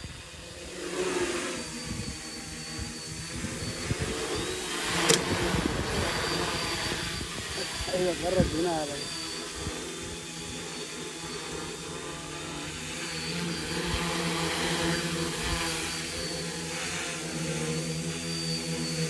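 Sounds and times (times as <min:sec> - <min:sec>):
drone motors whirring: 0:00.0 - 0:19.0.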